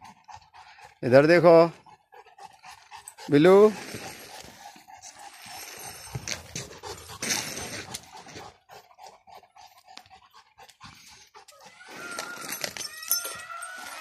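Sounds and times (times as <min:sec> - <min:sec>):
large dog panting: 0:00.0 - 0:14.0.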